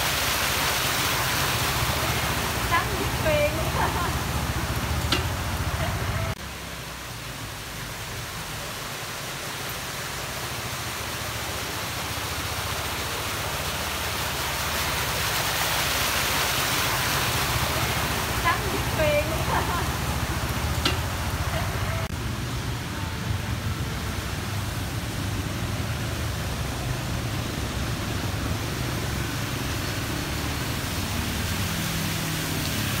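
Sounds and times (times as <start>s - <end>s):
car driving through floodwater: 0.0s - 33.0s
rushing water and tyres: 0.0s - 33.0s.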